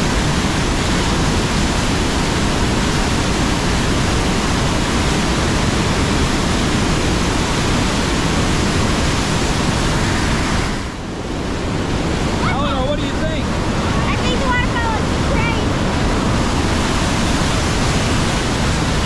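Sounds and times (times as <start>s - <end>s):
waterfall crashing onto boulders: 0.0s - 19.0s.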